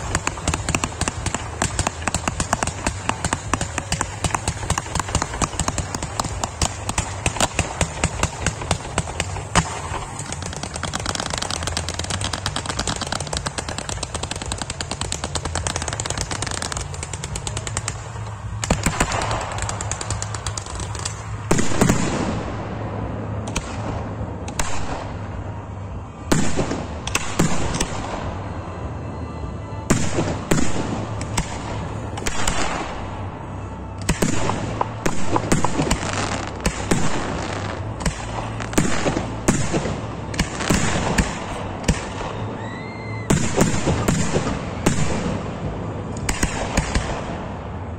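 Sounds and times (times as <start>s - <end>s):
fireworks bangs: 0.0s - 28.8s, 29.8s - 47.9s
fireworks crackling: 0.0s - 29.0s, 29.8s - 47.9s
steady low hum: 0.0s - 42.6s.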